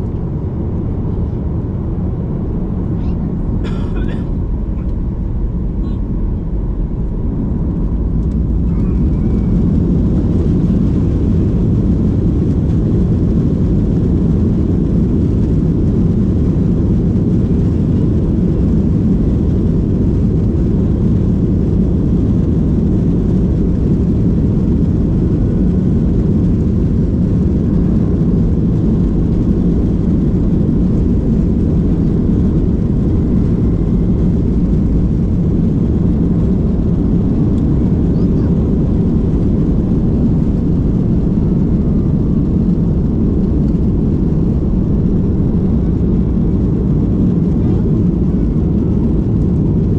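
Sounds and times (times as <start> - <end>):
airliner engine drone in cabin: 0.0 - 49.9.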